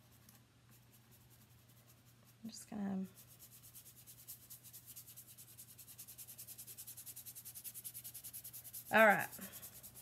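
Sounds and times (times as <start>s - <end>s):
brush scrubbing scratchy strokes: 0.0s - 10.0s.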